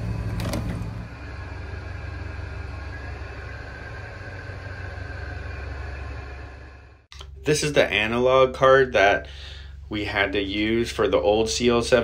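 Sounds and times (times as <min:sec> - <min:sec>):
faint high whine: 0:00.0 - 0:12.0
low machinery hum: 0:00.0 - 0:12.0.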